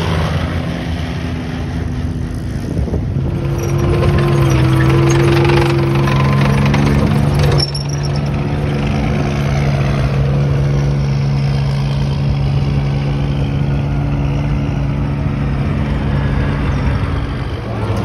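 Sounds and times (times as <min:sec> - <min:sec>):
tracked vehicle engine droning: 0:00.0 - 0:18.0.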